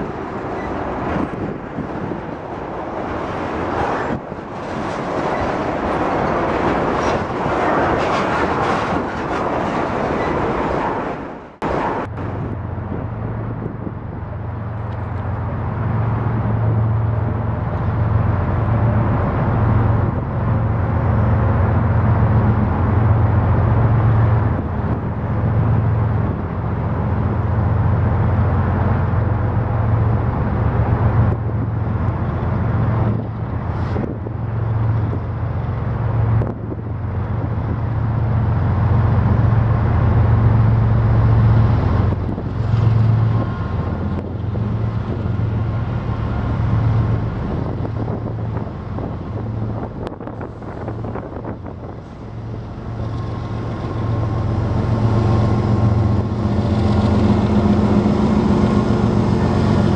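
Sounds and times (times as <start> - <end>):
freight train wheels on rail: 0.0 - 59.9
low engine drone: 0.0 - 59.9.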